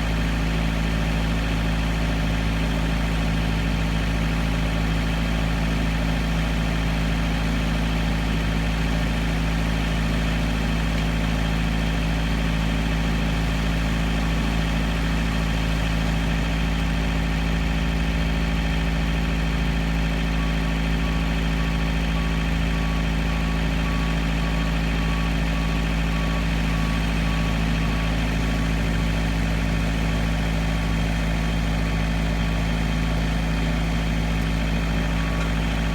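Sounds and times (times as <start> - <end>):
heavy engine running: 0.0 - 35.9.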